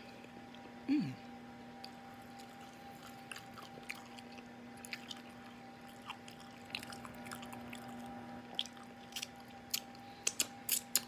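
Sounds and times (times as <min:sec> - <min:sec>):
faint steady hum: 0:00.0 - 0:11.0
person chewing with lip smacking: 0:01.8 - 0:11.0.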